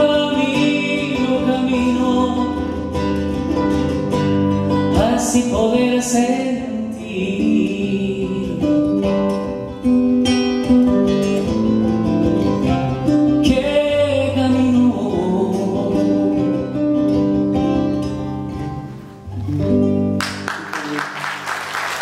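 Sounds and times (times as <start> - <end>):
acoustic guitars playing: 0.0 - 22.0.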